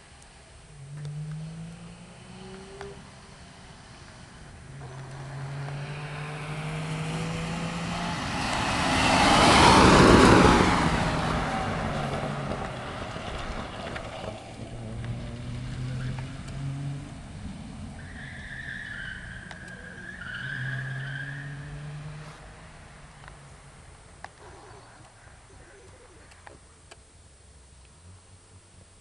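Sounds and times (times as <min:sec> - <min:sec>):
small car driving past: 0:00.7 - 0:25.9.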